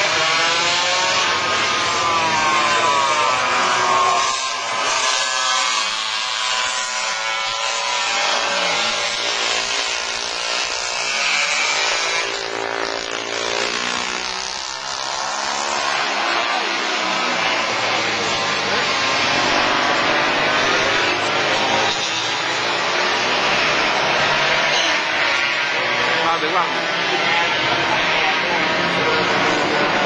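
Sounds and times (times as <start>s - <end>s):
motorcycles racing past: 0.0s - 30.0s.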